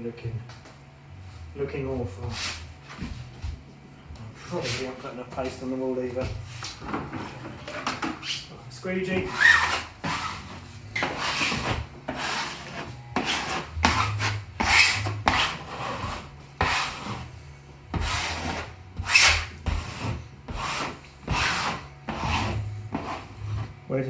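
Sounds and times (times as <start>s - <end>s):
squeegee rubbing on wallpaper: 2.2s - 3.3s, 4.4s - 5.2s, 6.4s - 23.8s.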